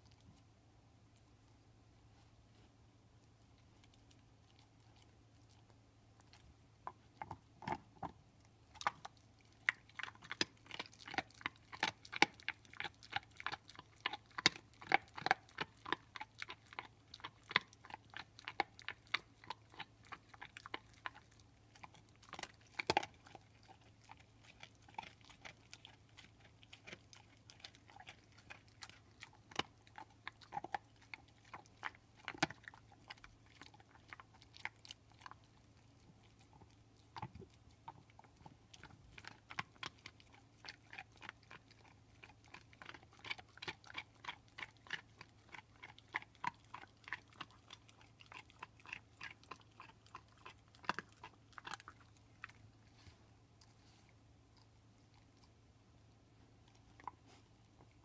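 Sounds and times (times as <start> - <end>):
dog crunching on a bone: 3.2 - 55.6.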